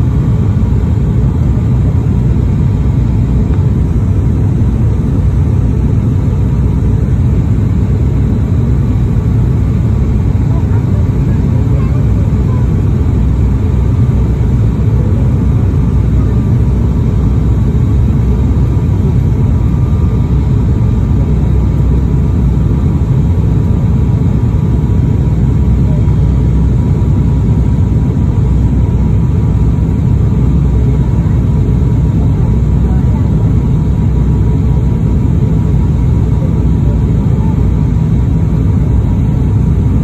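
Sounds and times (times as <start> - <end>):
airliner engines droning in cabin: 0.0 - 40.0
faint steady whine: 0.0 - 40.0.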